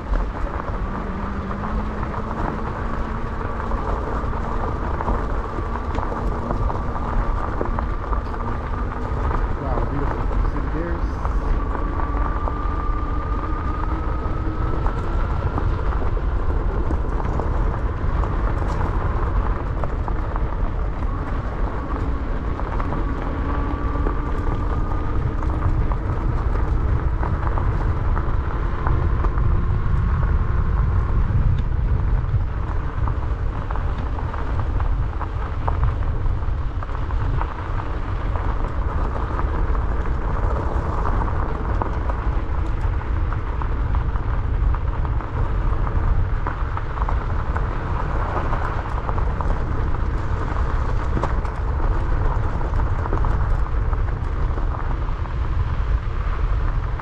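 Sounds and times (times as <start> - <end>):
bike rattling over dirt trail: 0.0 - 57.0
faint motor whine: 0.0 - 57.0
wind buffeting microphone: 0.0 - 57.0.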